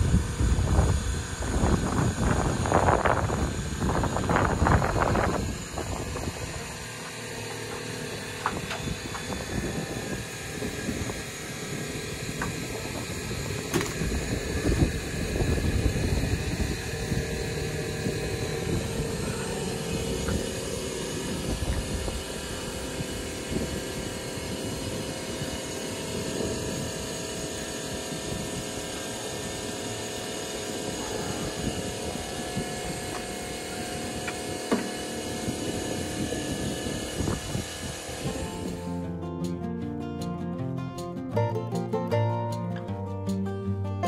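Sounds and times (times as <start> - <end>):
mechanical drone: 0.0 - 41.3.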